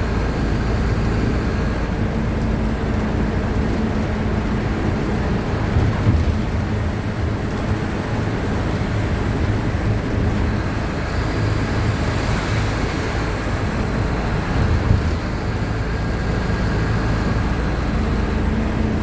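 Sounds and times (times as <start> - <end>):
bus diesel engine droning: 0.0 - 19.0
road and wind noise: 0.0 - 19.0.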